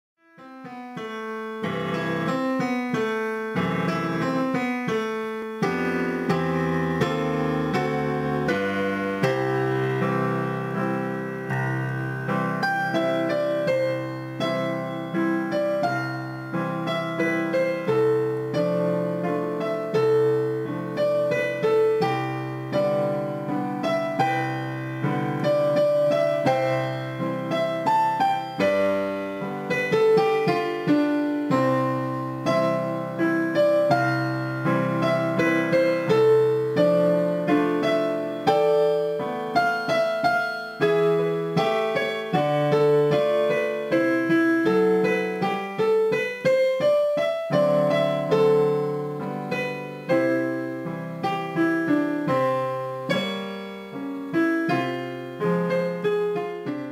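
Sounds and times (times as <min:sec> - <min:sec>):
piano music: 0:00.2 - 0:56.9.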